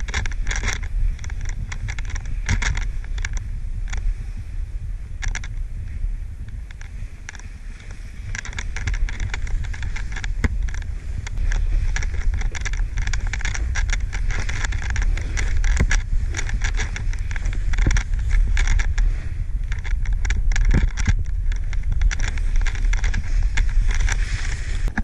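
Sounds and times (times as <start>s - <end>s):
snowboard crunching through snow: 0.0s - 25.0s
wind rumble on microphone: 0.0s - 25.0s.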